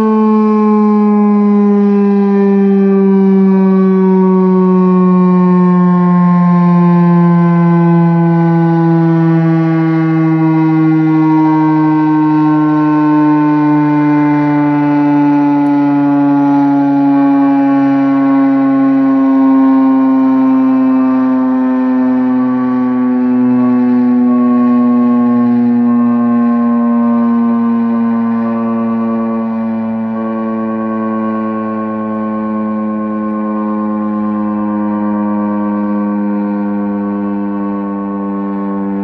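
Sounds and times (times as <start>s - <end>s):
civil defense siren: 0.0s - 39.0s.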